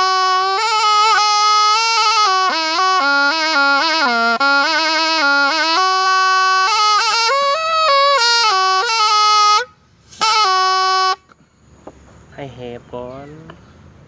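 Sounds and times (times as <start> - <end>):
double-reed oboe melody: 0.0 - 11.3.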